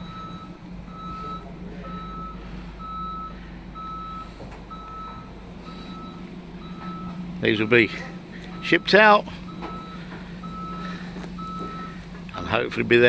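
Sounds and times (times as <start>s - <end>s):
reversing alarm beeping: 0.0s - 12.9s
lorry engine humming: 0.0s - 13.0s.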